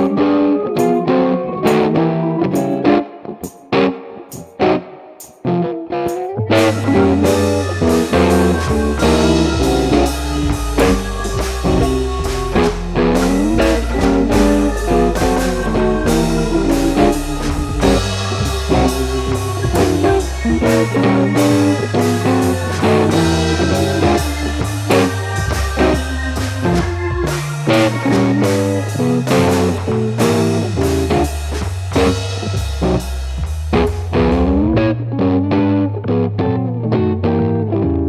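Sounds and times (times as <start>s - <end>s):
guitar tune with bass and drums: 0.0s - 38.0s.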